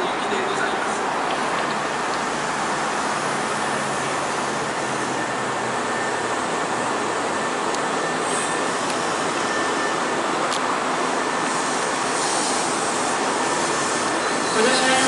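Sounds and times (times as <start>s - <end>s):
train wheels rumbling on rails: 0.0s - 15.0s
faint high whine: 2.2s - 15.0s.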